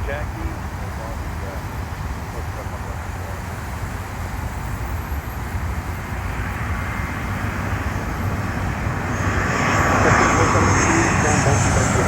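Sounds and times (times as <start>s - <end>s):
jet airliner engine rumble: 0.0s - 12.0s.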